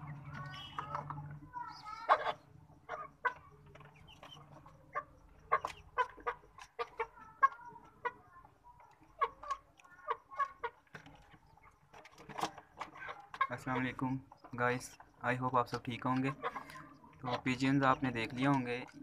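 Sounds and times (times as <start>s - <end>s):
chicken clucking: 0.0s - 19.0s.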